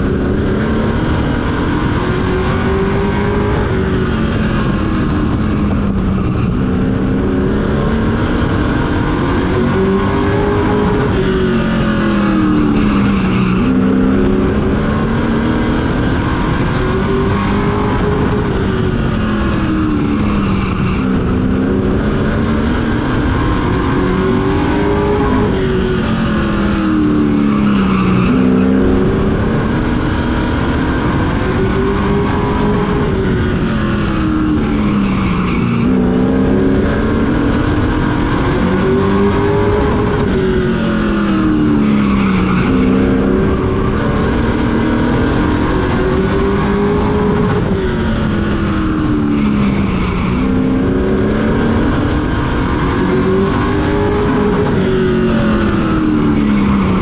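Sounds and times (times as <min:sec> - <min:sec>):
race engine revving: 0:00.0 - 0:57.0.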